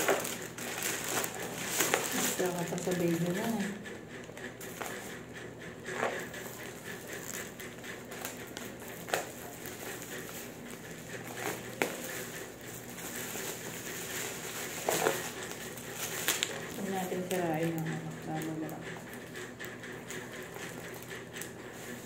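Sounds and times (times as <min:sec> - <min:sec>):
plastic wrapping crinkling: 0:00.0 - 0:05.2, 0:05.9 - 0:19.4
steady low hum: 0:00.0 - 0:22.0.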